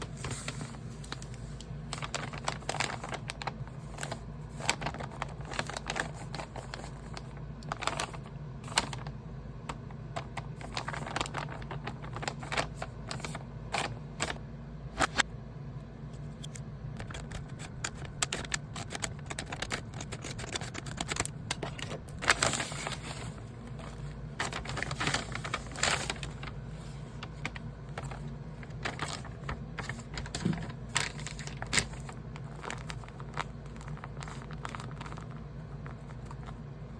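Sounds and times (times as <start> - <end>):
paper rustling and tapping: 0.0 - 9.1, 9.7 - 14.4, 17.0 - 36.6
steady low hum: 0.0 - 36.9.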